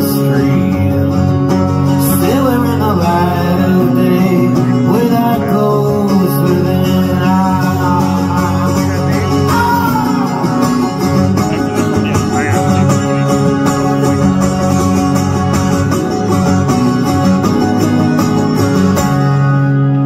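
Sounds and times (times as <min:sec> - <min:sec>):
acoustic guitar strummed fast: 0:00.0 - 0:20.0.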